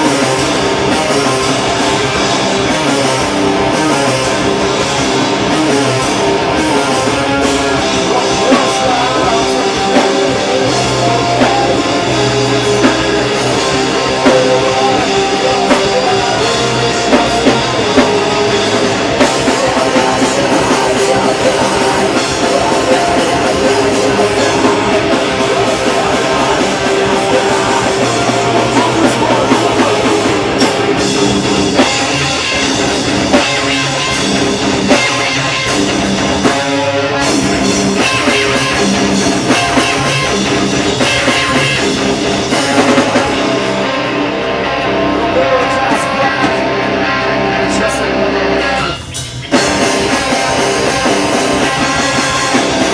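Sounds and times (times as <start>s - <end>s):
heavy rock band playing: 0.0s - 52.9s.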